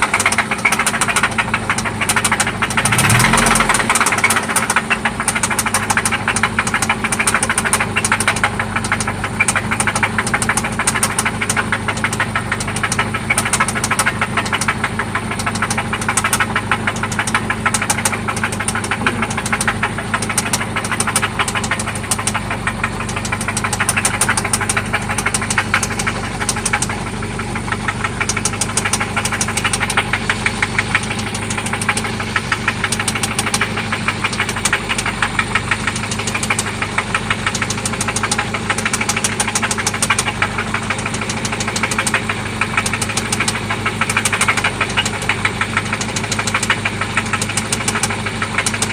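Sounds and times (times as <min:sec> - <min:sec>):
car engine knocking: 0:00.0 - 0:48.9.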